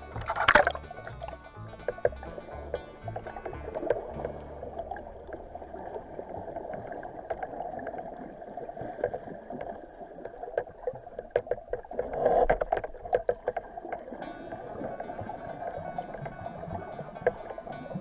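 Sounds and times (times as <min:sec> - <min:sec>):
muffled underwater sloshing: 0:00.0 - 0:18.0.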